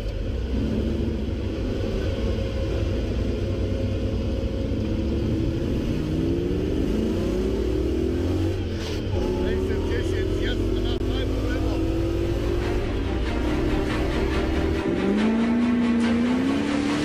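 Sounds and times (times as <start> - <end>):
engine rumbling and revving: 0.0 - 17.0.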